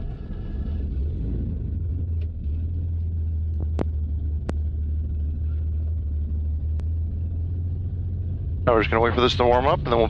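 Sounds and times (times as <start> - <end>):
aircraft engine idling: 0.0 - 10.0.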